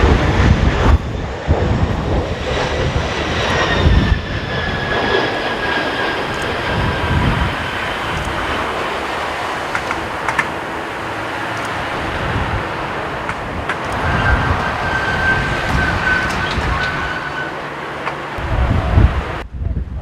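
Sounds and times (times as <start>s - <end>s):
wind buffeting microphone: 0.0s - 17.4s, 18.3s - 20.0s
jet engines roaring: 0.0s - 20.0s.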